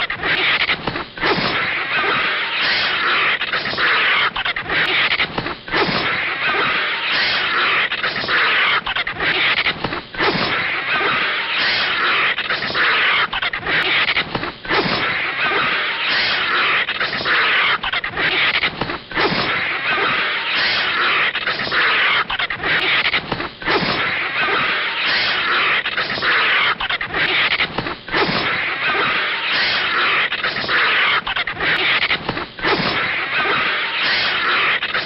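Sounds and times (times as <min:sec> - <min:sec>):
animal screeching and hissing: 0:00.0 - 0:35.0.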